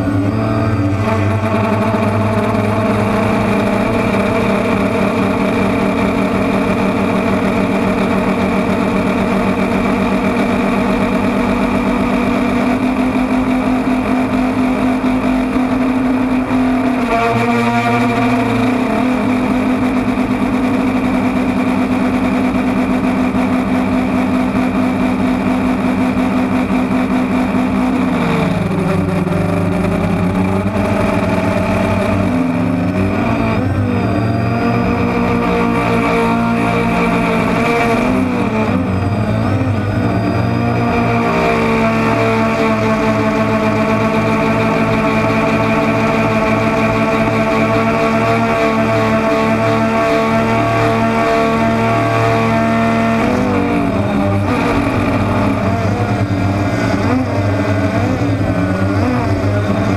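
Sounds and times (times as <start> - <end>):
drone motors humming: 0.0 - 59.9.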